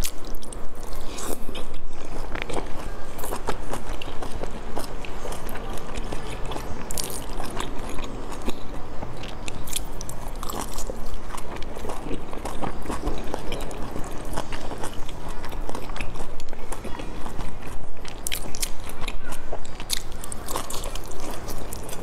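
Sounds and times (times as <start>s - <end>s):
chewing and biting food: 0.0s - 22.0s.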